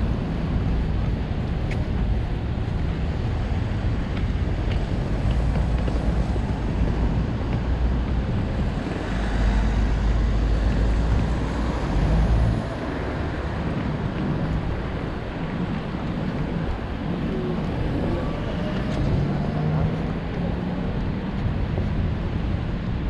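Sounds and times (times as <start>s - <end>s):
city street traffic: 0.0s - 23.0s
wind buffeting microphone: 0.0s - 23.0s.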